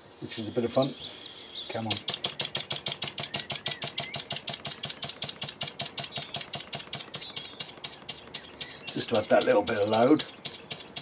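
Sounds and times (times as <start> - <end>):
model engine exhaust puffing: 2.0 - 11.0.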